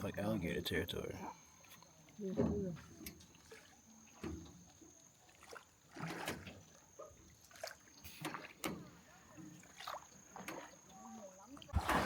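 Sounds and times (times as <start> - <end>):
oars splashing in water: 1.6 - 12.0.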